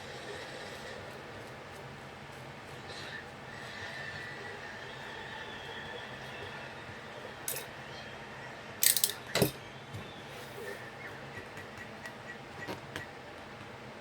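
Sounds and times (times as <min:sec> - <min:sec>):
steady faint hum: 0:00.0 - 0:14.0.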